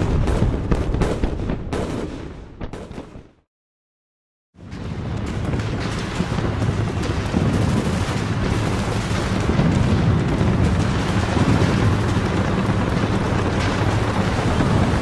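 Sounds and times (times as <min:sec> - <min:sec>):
crackle of gunfire: 0:00.0 - 0:03.5, 0:04.7 - 0:15.0
low rumble of explosions: 0:00.0 - 0:03.5, 0:04.6 - 0:15.0.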